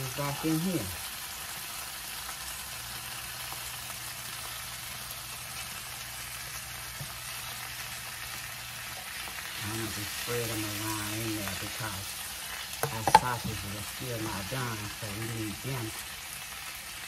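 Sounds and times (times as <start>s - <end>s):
sausages sizzling in a skillet: 0.0s - 17.0s.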